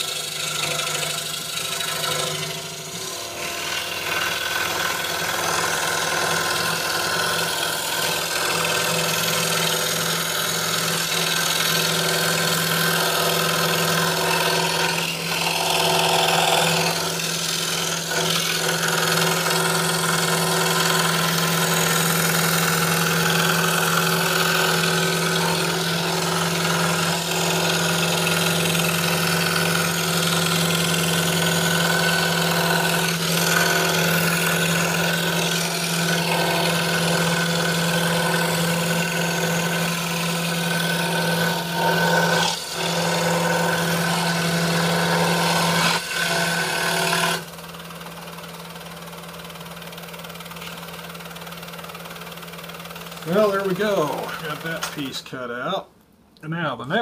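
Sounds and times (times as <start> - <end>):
scroll saw cutting wood: 0.0 - 55.4.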